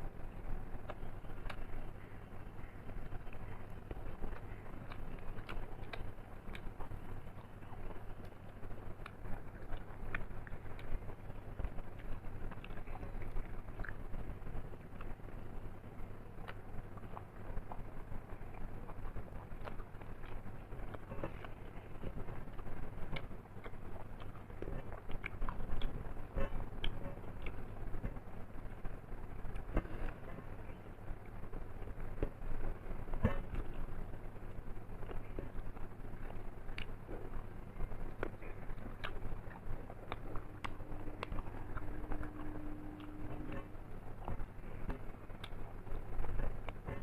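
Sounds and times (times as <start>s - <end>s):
low steady hum: 0.0s - 47.0s
person chewing wetly: 0.0s - 47.0s.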